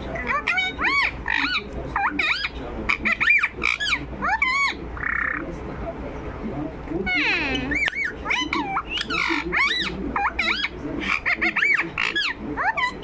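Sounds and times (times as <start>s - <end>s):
parakeet chattering: 0.0s - 5.5s, 7.0s - 13.0s.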